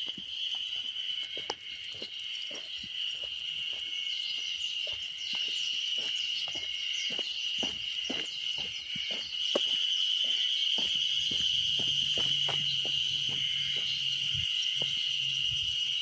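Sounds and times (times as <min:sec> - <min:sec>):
footsteps on pavement: 0:00.0 - 0:16.0
insects droning: 0:00.0 - 0:16.0.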